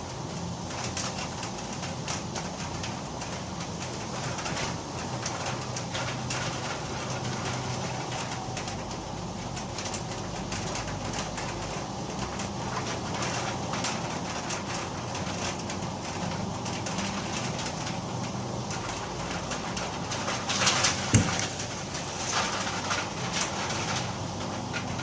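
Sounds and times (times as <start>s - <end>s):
heavy rain with wind: 0.0s - 25.0s.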